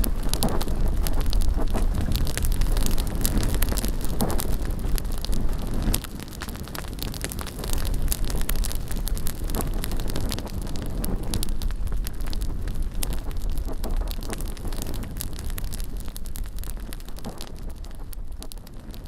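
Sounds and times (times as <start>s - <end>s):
bonfire crackling and popping: 0.0s - 19.0s
wind buffeting microphone: 0.0s - 19.0s.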